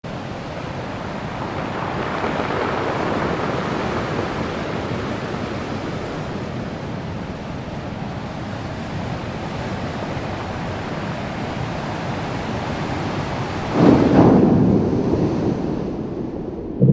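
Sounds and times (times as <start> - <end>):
underwater rushing: 0.1 - 8.0, 10.2 - 16.9.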